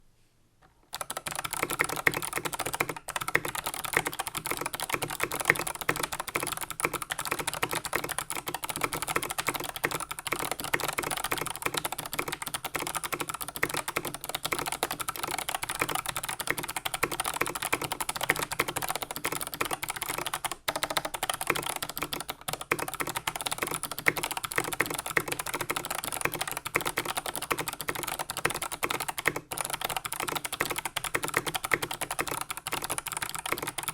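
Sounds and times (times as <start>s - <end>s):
fast mechanical keyboard typing: 0.9s - 33.9s.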